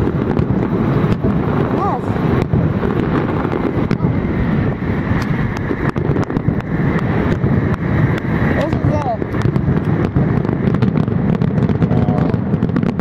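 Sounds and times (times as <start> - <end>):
fireworks cracking and popping: 0.0 - 13.0
low rumble: 0.0 - 13.0.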